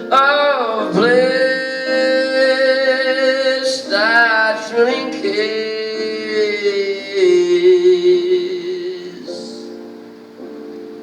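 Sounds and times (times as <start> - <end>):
man singing jazz ballad: 0.0 - 9.9
soft instrumental accompaniment: 0.0 - 11.0.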